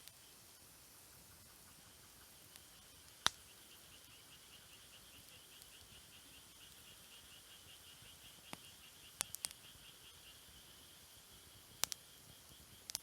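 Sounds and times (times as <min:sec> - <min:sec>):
campfire crackling and popping: 0:00.0 - 0:13.0
cricket chirping: 0:00.0 - 0:13.0.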